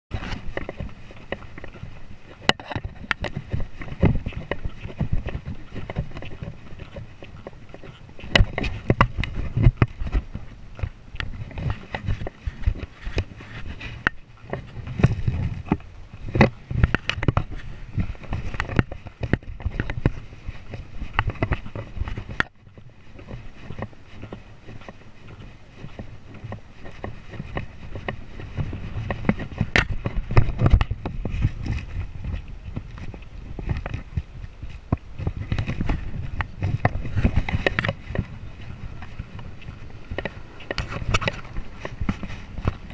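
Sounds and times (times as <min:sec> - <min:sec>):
horse hooves thudding on sand: 0:00.1 - 0:42.9
horse tack clicking: 0:00.1 - 0:42.9
wind rumbling on microphone: 0:00.1 - 0:42.9.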